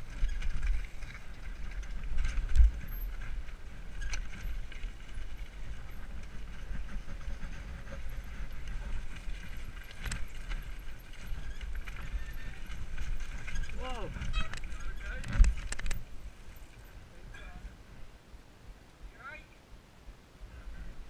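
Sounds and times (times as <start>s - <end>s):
bike tyres and rattling: 0.0s - 18.0s
wind rumble on microphone: 0.0s - 21.0s.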